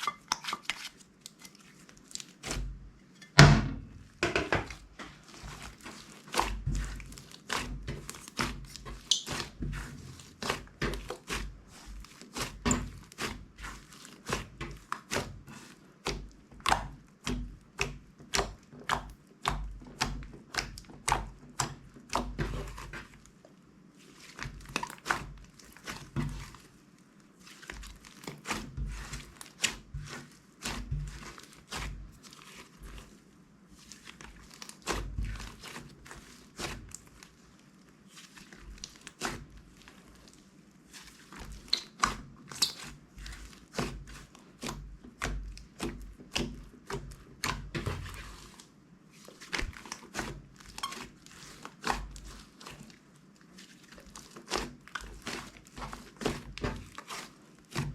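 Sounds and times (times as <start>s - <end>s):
slime squishing with sticky pops: 0.0s - 26.8s, 27.4s - 33.2s, 33.8s - 57.9s.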